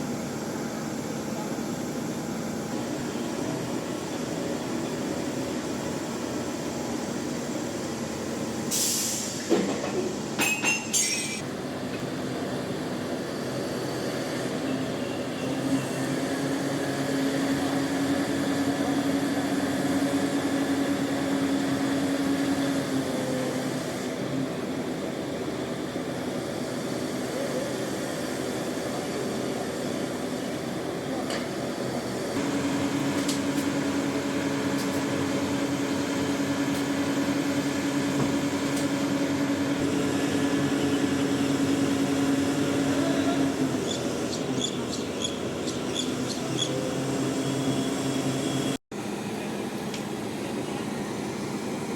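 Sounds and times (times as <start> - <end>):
crane engine and hydraulics: 0.0 - 51.9.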